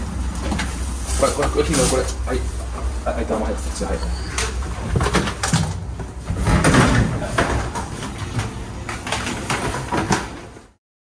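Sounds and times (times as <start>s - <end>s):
cardboard and plastic rustling: 0.2s - 10.8s.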